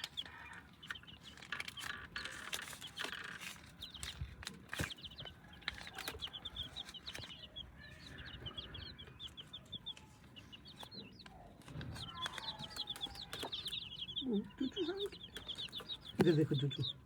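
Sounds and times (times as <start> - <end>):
hen clucking: 0.0 - 4.1, 4.8 - 17.0
chicks peeping: 0.0 - 17.0.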